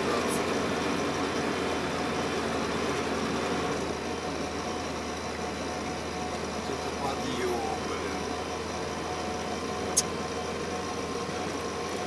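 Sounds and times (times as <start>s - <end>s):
engine and road noise inside van: 0.0s - 12.0s.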